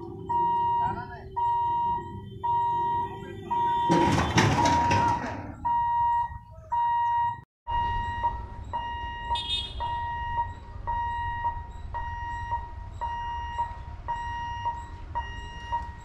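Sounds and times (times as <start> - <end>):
level crossing alarm beeping: 0.0 - 16.0.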